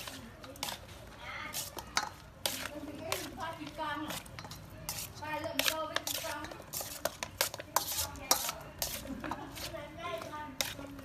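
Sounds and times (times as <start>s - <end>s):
utensils clinking against cookware: 1.5s - 11.0s.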